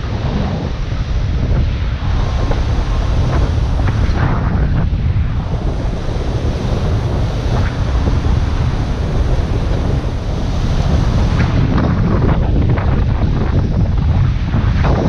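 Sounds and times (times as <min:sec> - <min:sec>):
sea splashing around ship bow: 0:00.0 - 0:15.0
wind buffeting microphone: 0:00.0 - 0:15.0.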